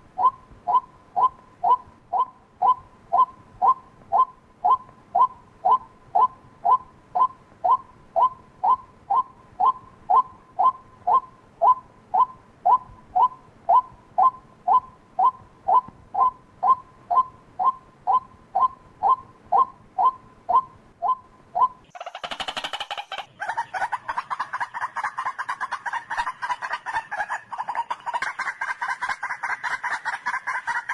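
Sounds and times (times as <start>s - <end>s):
waterhen calling: 0.2s - 25.5s.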